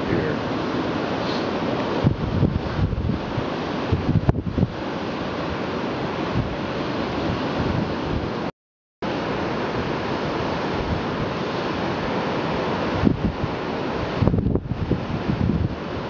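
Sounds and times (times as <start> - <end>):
wind buffeting microphone: 0.0 - 8.5, 9.5 - 16.0.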